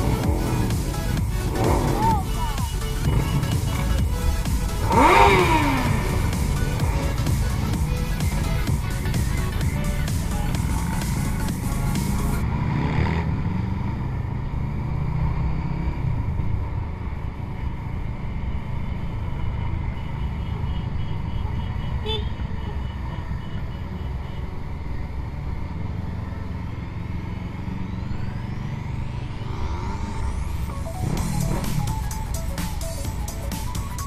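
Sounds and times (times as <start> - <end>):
motorcycle engines rumbling: 0.0 - 34.0.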